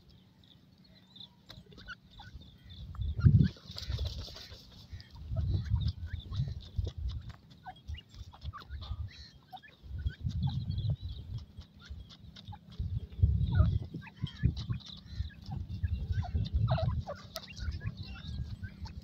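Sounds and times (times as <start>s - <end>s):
birds chirping and peeping: 0.0s - 19.0s.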